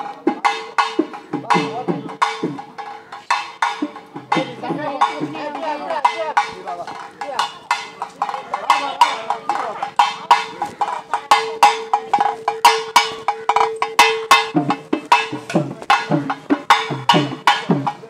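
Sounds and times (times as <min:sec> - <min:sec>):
drums beating fast rhythm: 0:00.0 - 0:18.0
low pitch-bending drum notes: 0:00.1 - 0:18.0.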